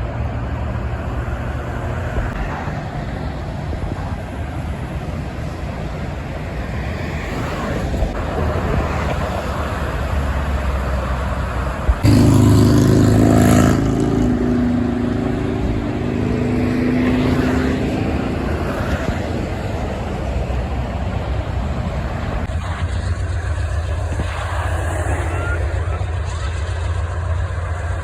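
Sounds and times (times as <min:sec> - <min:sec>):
highway traffic rumbling: 0:00.0 - 0:28.0
truck passing close: 0:00.0 - 0:28.0.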